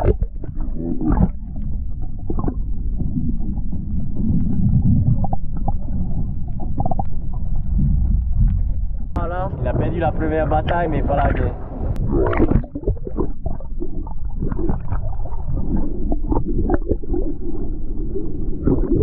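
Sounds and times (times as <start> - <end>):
underwater rumble and swirl: 0.0 - 19.0.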